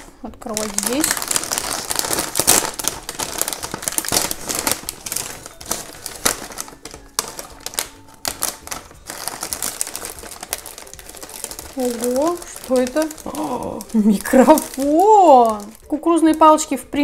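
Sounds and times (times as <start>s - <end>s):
snack bag crinkling and rustling: 0.0s - 16.8s
snack bag ripped open: 0.6s - 15.9s.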